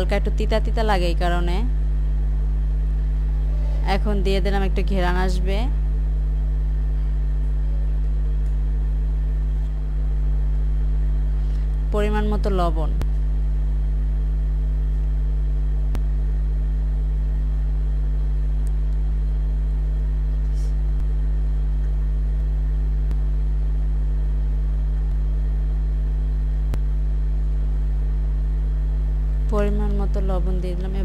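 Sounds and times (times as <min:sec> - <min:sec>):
buzzy electrical hum: 0:00.0 - 0:31.0.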